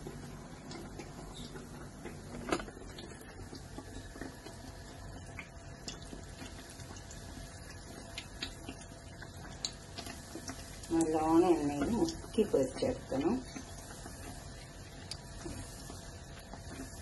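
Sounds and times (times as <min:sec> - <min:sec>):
food frying in hot oil: 0:00.0 - 0:17.0
oil crackling and popping: 0:00.0 - 0:17.0.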